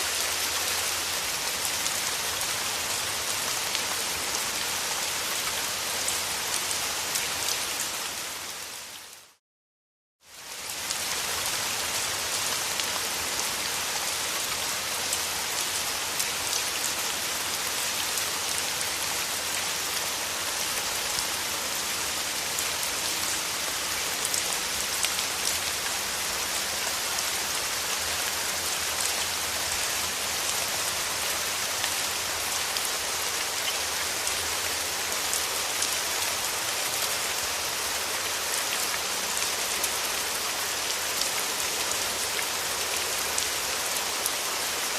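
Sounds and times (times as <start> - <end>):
steady rain falling: 0.0 - 9.4, 10.2 - 44.9.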